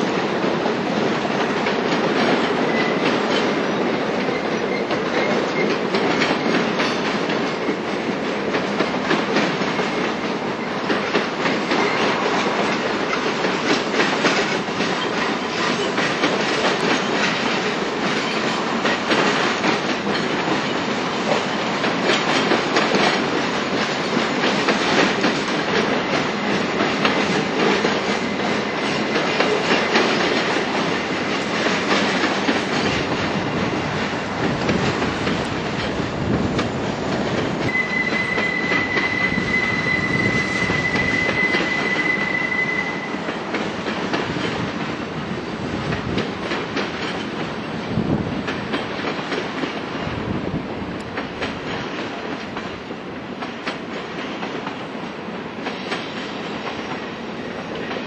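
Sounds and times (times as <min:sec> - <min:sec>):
train wheels clacking over rail joints: 0:00.0 - 0:50.2, 0:51.0 - 0:58.0.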